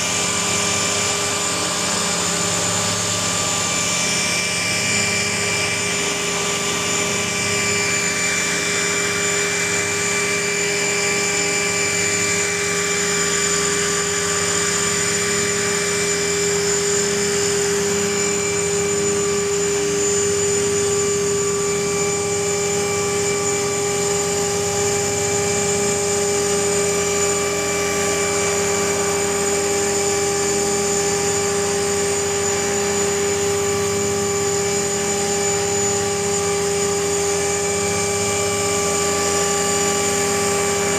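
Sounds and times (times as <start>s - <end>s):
rc helicopter motor whine: 0.0s - 40.9s.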